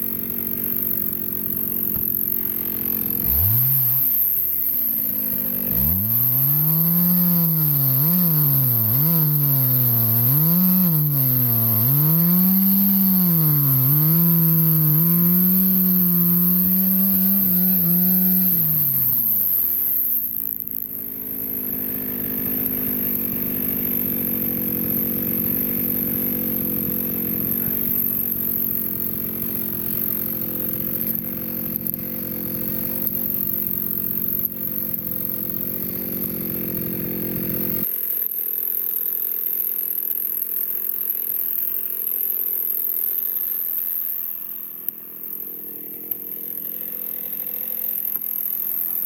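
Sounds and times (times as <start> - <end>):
chainsaw cutting through log: 0.0 - 49.0.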